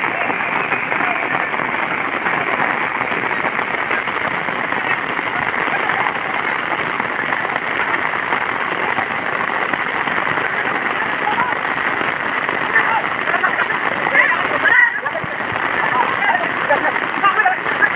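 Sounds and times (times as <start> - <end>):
rain falling on grass: 0.0 - 17.9.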